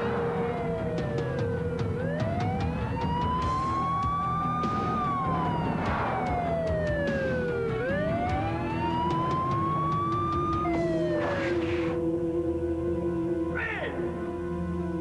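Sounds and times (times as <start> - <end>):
police siren wailing: 0.0 - 13.2.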